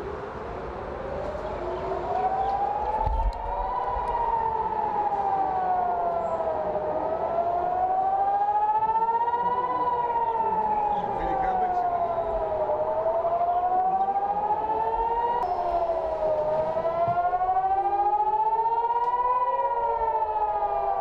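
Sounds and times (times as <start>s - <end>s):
civil defense siren wailing: 0.0s - 21.0s.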